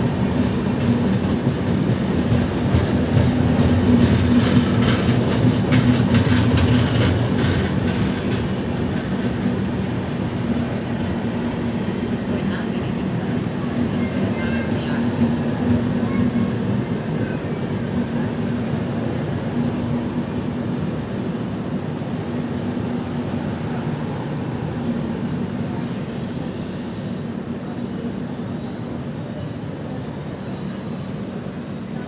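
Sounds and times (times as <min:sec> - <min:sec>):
train coaches rumbling on track: 0:00.0 - 0:32.0.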